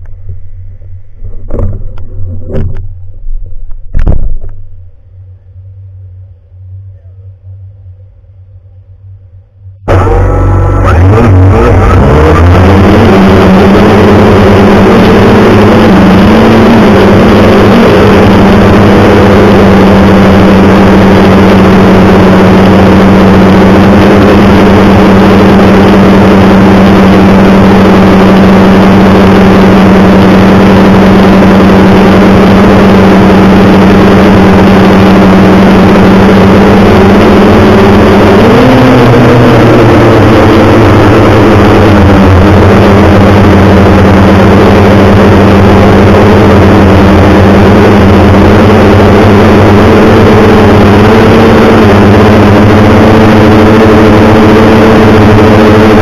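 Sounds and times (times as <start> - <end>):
loud engine running: 0.0 - 56.0.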